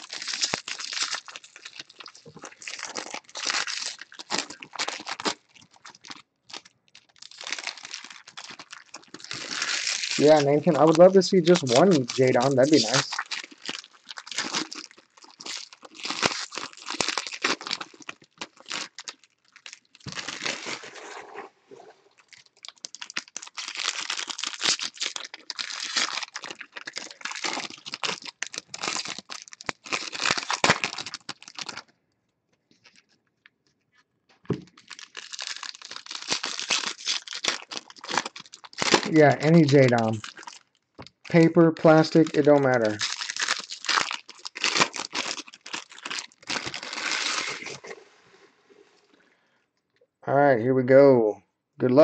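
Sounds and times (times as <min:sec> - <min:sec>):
foil wrappers crinkling: 0:00.0 - 0:21.2, 0:22.1 - 0:31.9, 0:32.7 - 0:33.5, 0:34.5 - 0:48.0.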